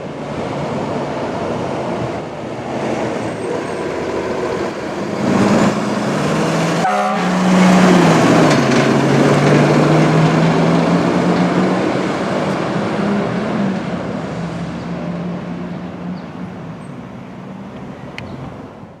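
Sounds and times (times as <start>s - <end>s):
diesel engine driving off: 0.0s - 18.6s
road noise: 0.0s - 19.0s.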